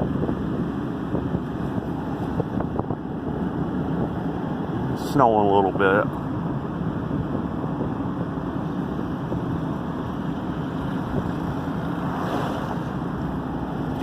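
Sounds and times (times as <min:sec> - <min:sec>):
car engine hum: 0:00.0 - 0:14.0
tyre road noise: 0:00.0 - 0:14.0.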